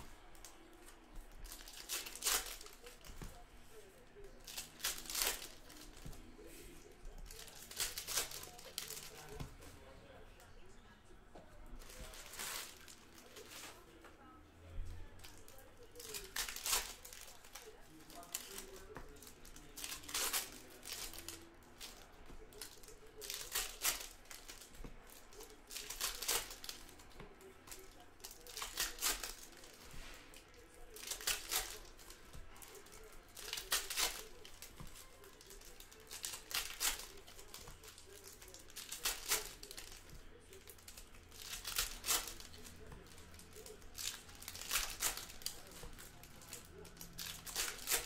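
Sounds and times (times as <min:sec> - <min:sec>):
cards and wrappers rustling: 0:00.0 - 0:48.0.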